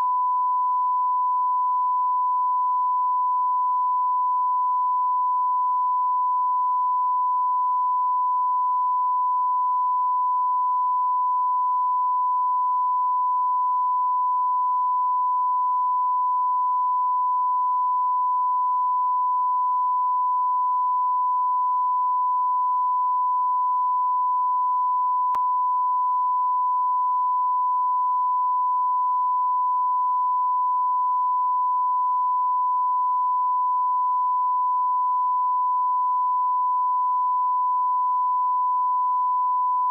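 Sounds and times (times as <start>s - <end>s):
electronic sine tone: 0.0s - 39.9s.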